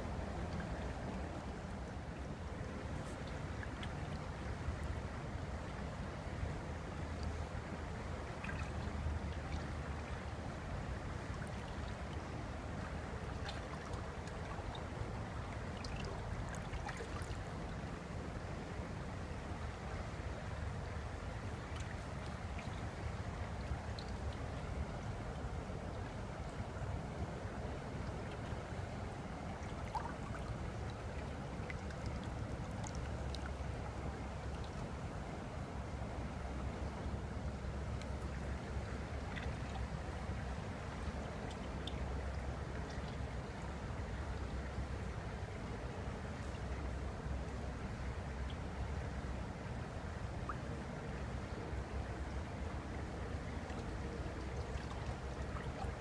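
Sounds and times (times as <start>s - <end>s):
small water splashes: 0.1s - 47.0s, 49.9s - 56.0s.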